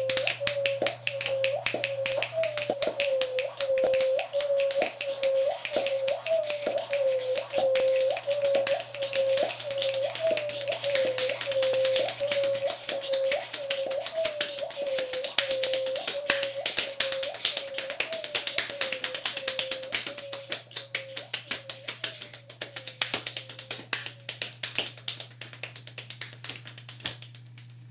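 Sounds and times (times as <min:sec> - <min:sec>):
mouth clicks: 0:00.0 - 0:25.8
finger snaps and taps: 0:00.0 - 0:27.9.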